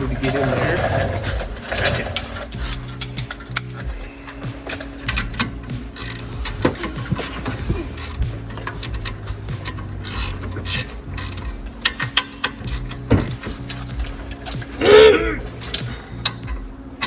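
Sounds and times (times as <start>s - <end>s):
ratchet wrench clicking: 0.8s - 14.8s, 15.5s - 16.5s.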